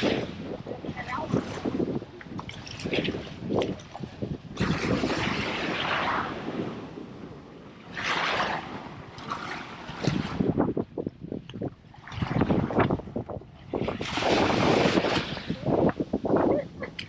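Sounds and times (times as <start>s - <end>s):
small waves washing on sand: 0.0s - 10.6s, 11.9s - 17.0s
wind buffeting microphone: 0.0s - 17.0s.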